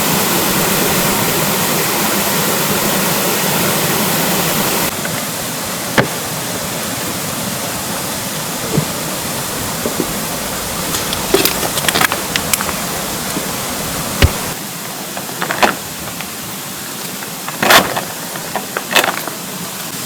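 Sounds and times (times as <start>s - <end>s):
steady rain: 0.0s - 20.0s
stream rushing: 0.0s - 20.0s.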